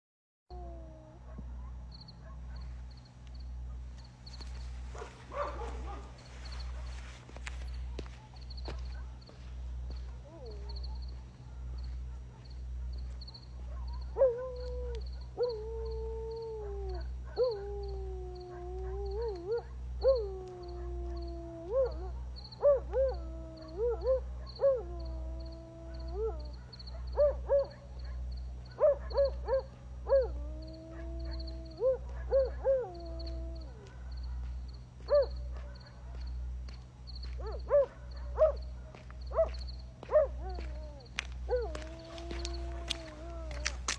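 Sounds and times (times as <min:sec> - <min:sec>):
wild canids howling: 0:00.5 - 0:03.0, 0:03.6 - 0:36.3, 0:37.3 - 0:43.9.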